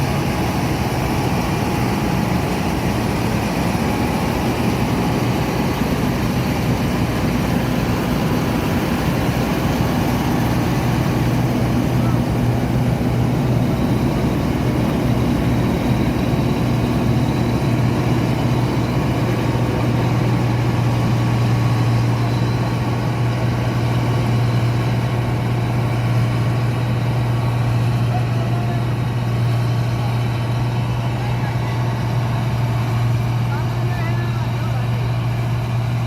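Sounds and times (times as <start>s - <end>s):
combine harvester engine running: 0.0s - 36.0s.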